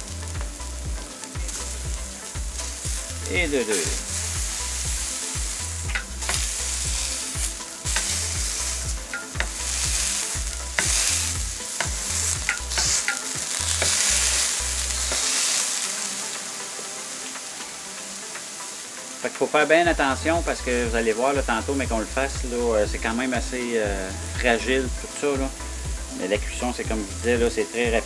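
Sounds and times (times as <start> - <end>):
burger patties sizzling on griddle: 0.0 - 28.0.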